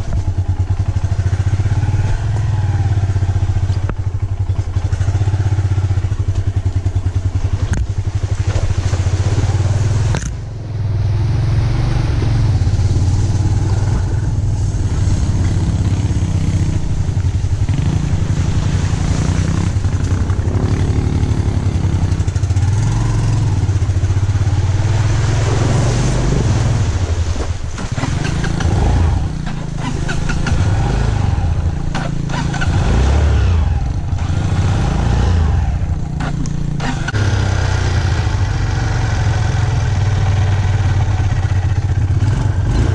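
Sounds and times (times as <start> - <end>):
water sloshing and splashing: 0.0 - 37.5
motorcycle engine running: 0.0 - 42.9.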